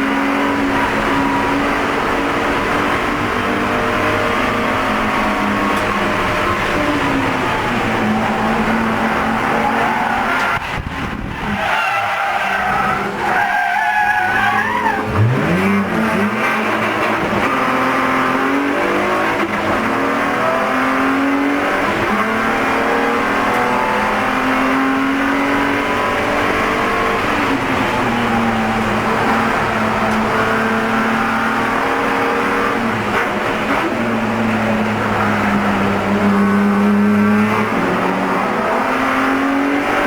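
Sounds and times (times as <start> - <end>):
car engine revving: 0.0 - 40.0
tires squealing: 0.0 - 40.0.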